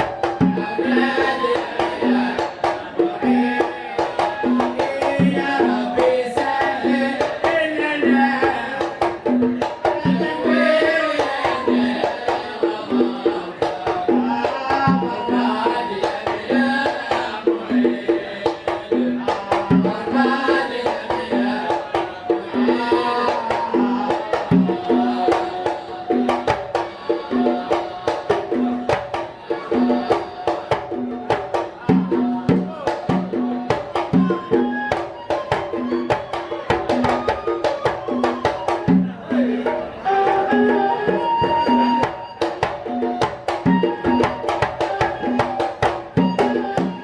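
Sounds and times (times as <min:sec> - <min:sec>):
hand drum beat: 0:00.0 - 0:47.0
voices singing: 0:00.0 - 0:47.0.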